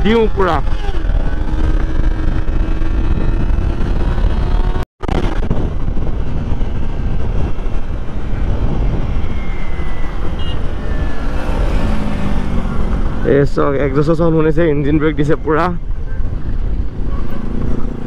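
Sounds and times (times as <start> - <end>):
dense low rumble: 0.0 - 17.1.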